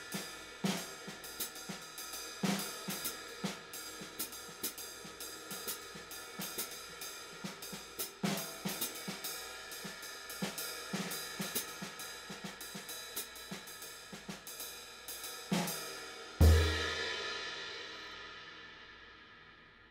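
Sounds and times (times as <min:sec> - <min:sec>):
ride cymbal played with stick: 0:00.0 - 0:19.4.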